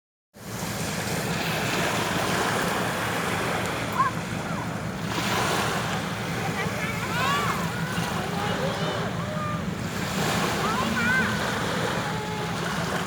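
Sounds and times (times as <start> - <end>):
sea surf washing onto shore: 0.4 - 13.0.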